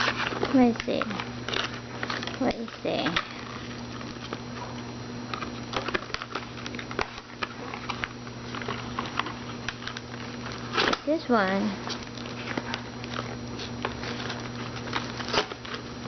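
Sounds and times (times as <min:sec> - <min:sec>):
toy packaging clicks and crackles: 0:00.0 - 0:04.4, 0:05.3 - 0:15.8
steady low hum: 0:00.0 - 0:16.0.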